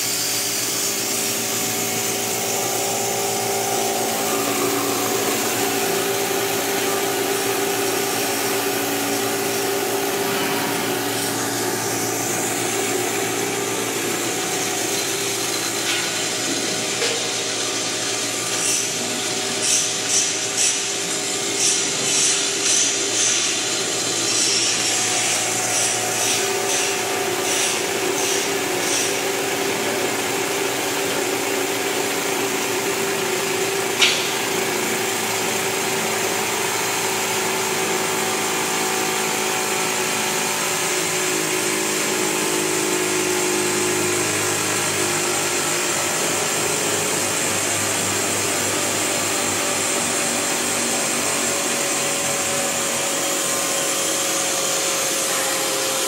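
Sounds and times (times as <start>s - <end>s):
grinder running: 0.0s - 56.0s.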